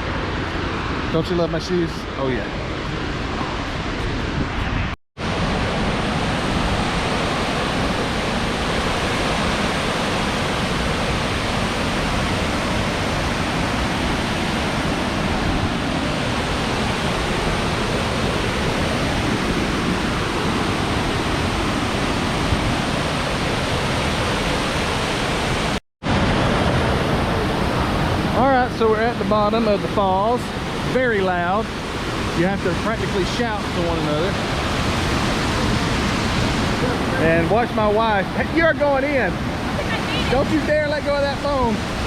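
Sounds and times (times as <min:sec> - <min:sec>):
waterfall roaring: 0:05.2 - 0:42.0.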